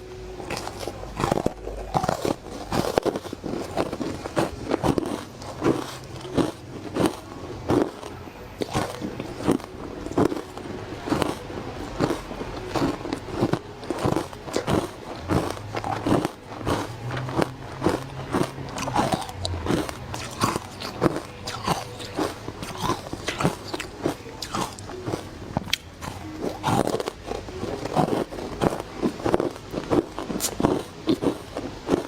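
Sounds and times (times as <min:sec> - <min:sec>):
crunching ice between teeth: 0:00.0 - 0:32.0.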